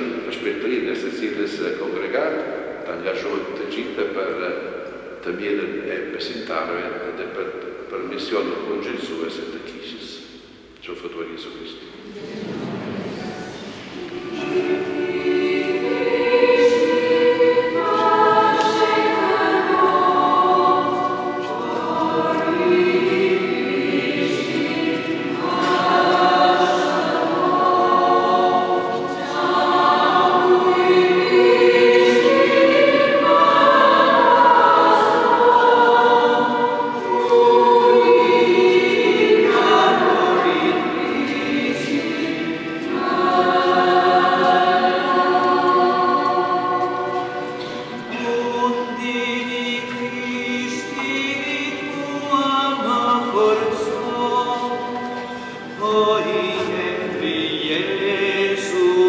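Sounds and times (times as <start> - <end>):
choir singing a hymn: 0.0 - 7.0, 12.0 - 59.0.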